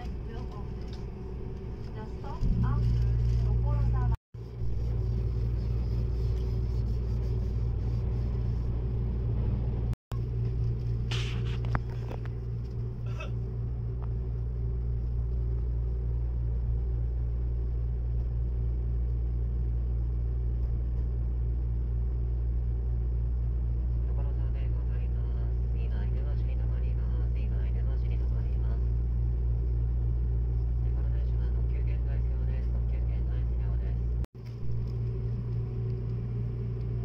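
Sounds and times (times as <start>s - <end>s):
train carriage rumble and hum: 0.0s - 37.0s.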